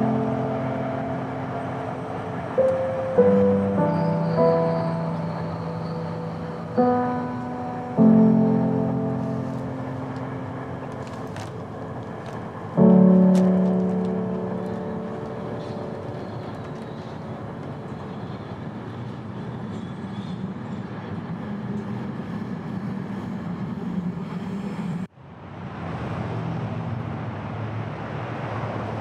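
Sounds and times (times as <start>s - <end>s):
city traffic rumble: 0.0s - 29.0s
subway train rumble: 0.0s - 29.0s.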